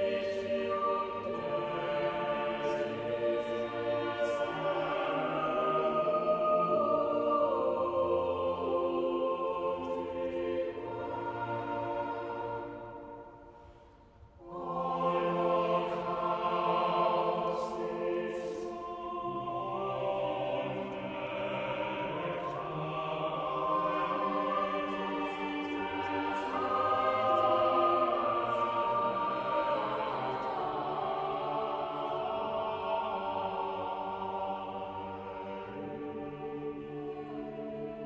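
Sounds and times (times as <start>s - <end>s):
choir singing in harmony: 0.0s - 38.0s.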